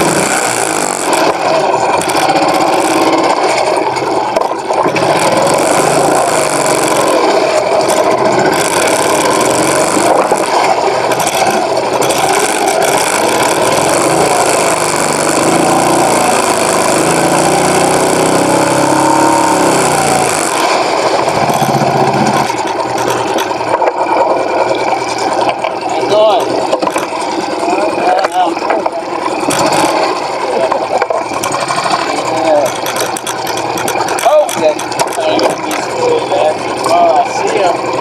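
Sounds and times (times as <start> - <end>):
outboard motor running: 0.0 - 38.0.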